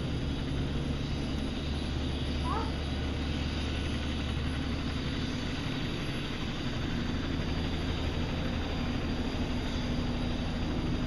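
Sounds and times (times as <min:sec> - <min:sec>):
helicopter droning: 0:00.0 - 0:11.0.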